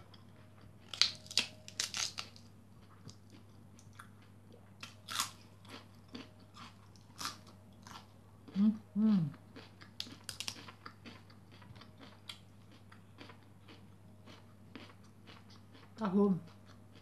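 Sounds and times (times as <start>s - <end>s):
crunchy food being chewed: 0.0s - 8.7s, 9.4s - 17.0s.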